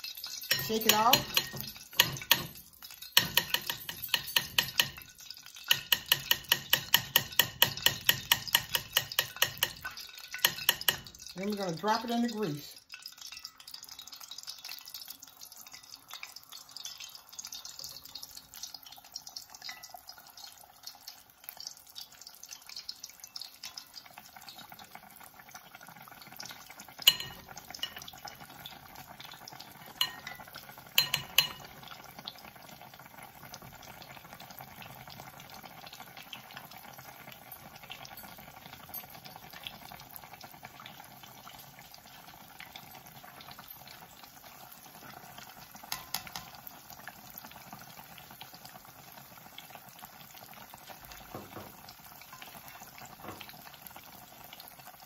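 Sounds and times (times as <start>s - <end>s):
fish frying in oil: 0.0s - 55.0s.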